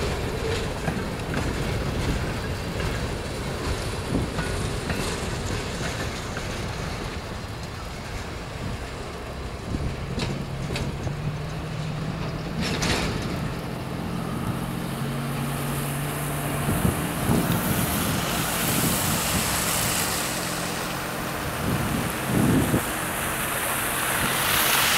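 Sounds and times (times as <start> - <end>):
wind buffeting microphone: 0.0 - 24.8
diesel locomotive engine humming: 0.0 - 24.9.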